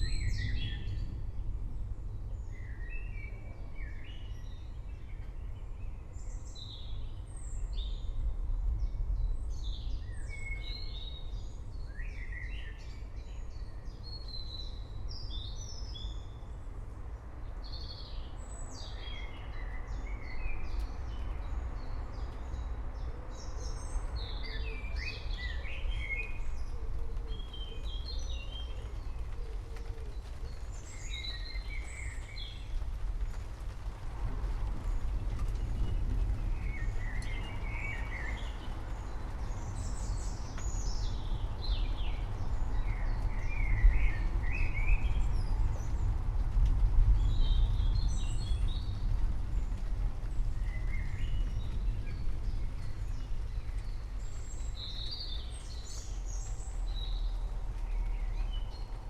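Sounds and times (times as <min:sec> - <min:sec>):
forest birds chirping and singing: 0:00.0 - 0:59.0
low background rumble: 0:00.0 - 0:59.0.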